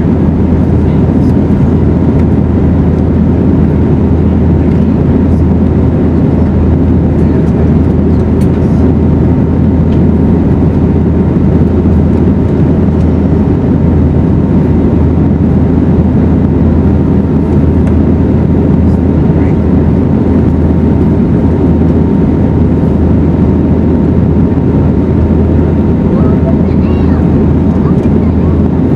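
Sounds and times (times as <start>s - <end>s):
airplane cabin engine rush: 0.0s - 28.9s
deep hum: 0.0s - 28.9s.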